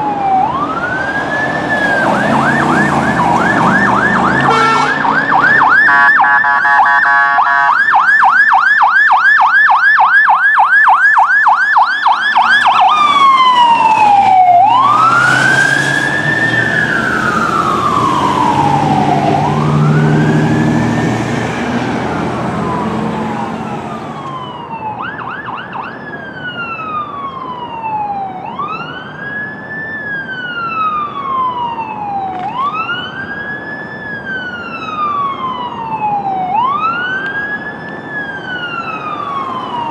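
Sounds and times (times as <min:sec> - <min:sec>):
emergency siren yelp and wail: 0:00.0 - 0:39.9
truck engine and road noise: 0:00.0 - 0:39.9.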